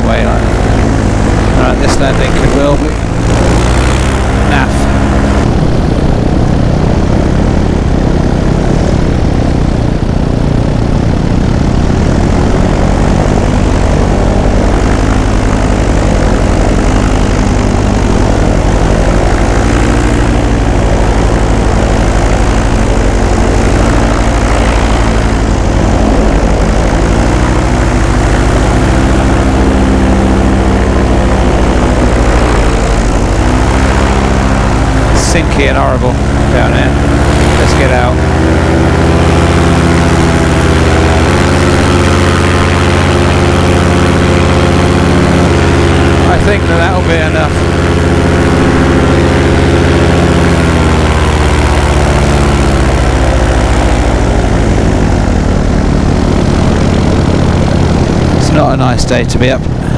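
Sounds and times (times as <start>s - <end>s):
two-stroke engine and propeller: 0.0s - 59.9s.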